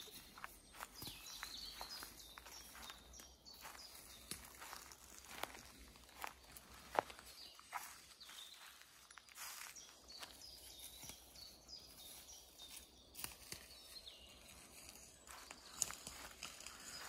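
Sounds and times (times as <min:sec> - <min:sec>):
soft footsteps on forest floor: 0:00.0 - 0:17.0.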